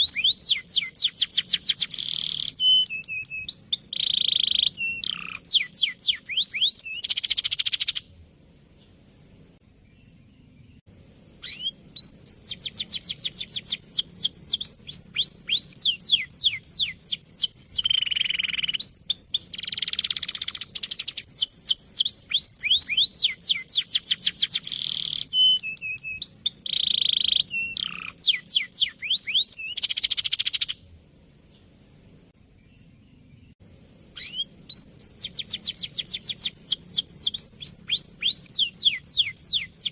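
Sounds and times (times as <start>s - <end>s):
canary singing trills: 0.0s - 9.0s, 9.8s - 31.7s, 32.5s - 39.9s.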